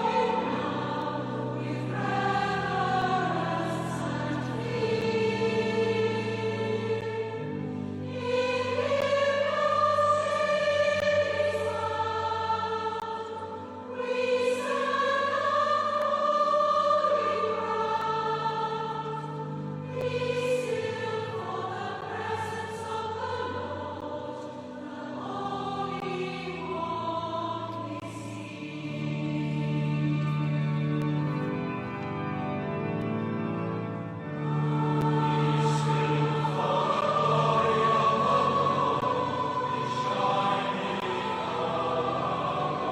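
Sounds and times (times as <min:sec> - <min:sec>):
choir singing slowly: 0:00.0 - 0:42.9.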